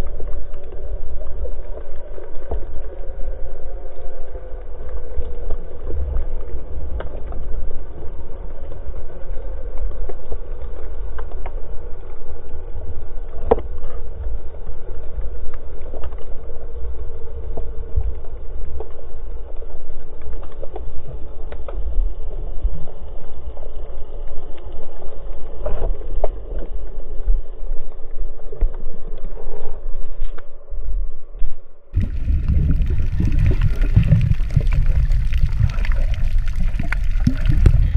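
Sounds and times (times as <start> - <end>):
faint clicks: 0.0 - 30.6
faint hum: 0.0 - 37.9
underwater water rumble: 0.0 - 37.9.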